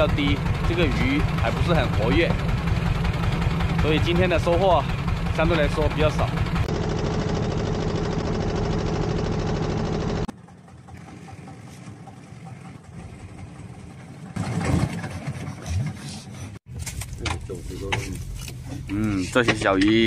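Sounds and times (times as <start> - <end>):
boat engine running: 0.0 - 20.0
harbour background: 0.0 - 20.0.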